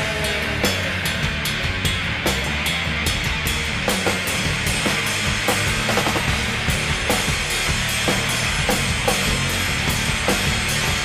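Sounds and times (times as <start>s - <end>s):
hard rock band playing: 0.0s - 11.0s.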